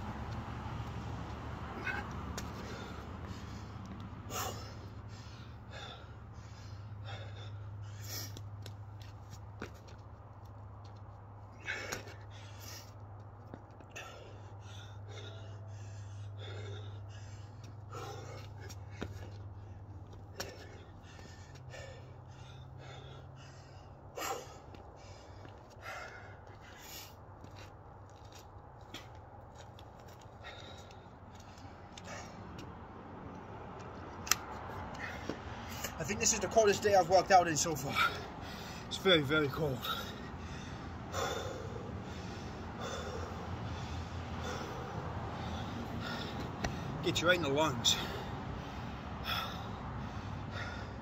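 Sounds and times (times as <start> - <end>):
man breathing hard: 0.1 - 51.0.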